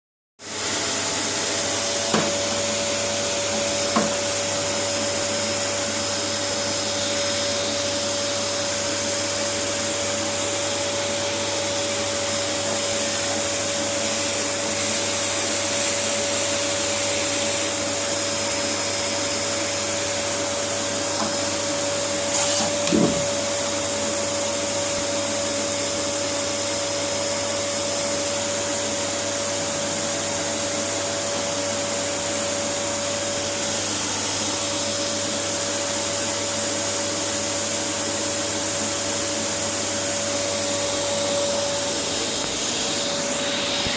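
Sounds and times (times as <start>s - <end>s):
vacuum cleaner running: 0.4s - 43.9s.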